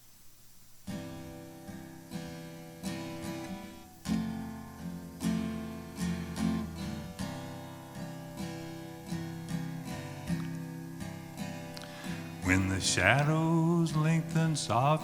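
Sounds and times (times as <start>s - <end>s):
acoustic guitar strumming chords: 0.8s - 15.0s.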